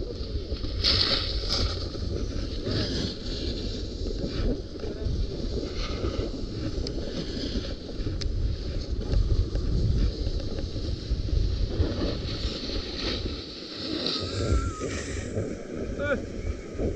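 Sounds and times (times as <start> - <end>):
snowboard carving on snow: 0.0 - 16.9
wind buffeting microphone: 0.0 - 16.9.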